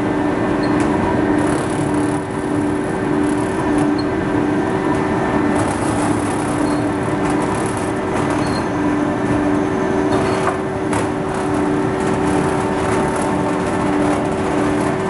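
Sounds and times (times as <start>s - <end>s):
tearing machine mechanical drone: 0.0s - 15.0s.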